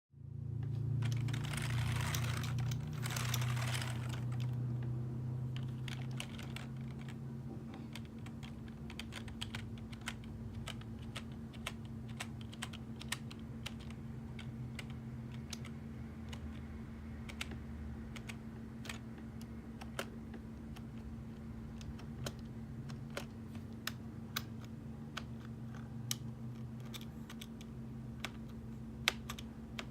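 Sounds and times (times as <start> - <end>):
steady low hum: 0.1 - 29.9.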